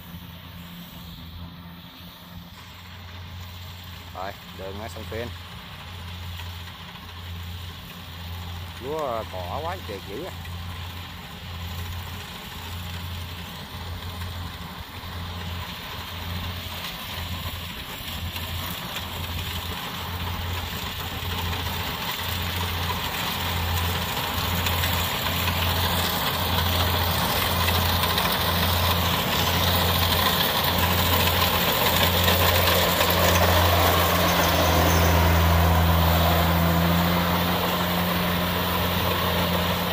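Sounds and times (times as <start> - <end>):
combine harvester engine hum: 0.0 - 39.9
rattling machine noise: 4.2 - 39.9.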